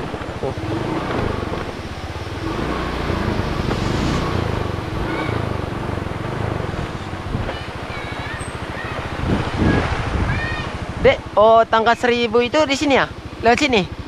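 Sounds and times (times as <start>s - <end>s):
wind noise: 0.0s - 11.4s
motorcycle engine running: 0.0s - 14.0s.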